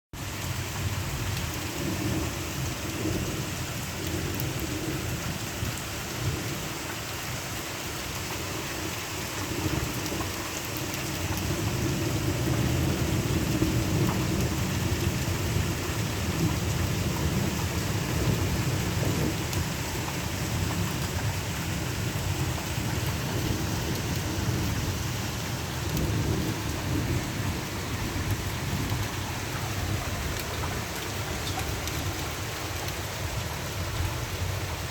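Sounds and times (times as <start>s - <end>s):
steady rain falling: 0.1s - 34.9s
low rumble of thunder: 0.3s - 34.9s.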